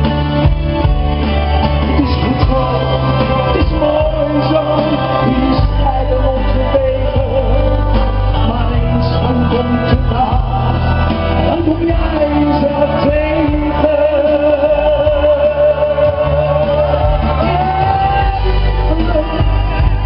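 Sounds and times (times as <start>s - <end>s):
loud backing music: 0.0s - 20.0s
man singing into a microphone: 1.8s - 20.0s.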